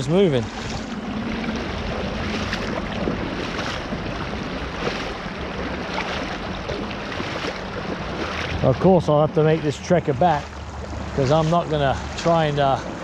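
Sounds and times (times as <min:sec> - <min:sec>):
creek water rushing: 0:00.0 - 0:13.0
splashing footsteps in water: 0:00.0 - 0:13.0.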